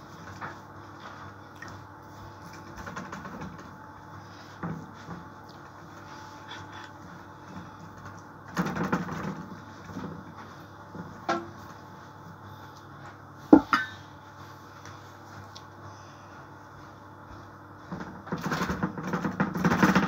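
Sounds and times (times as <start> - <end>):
low steady hum: 0.0 - 19.8.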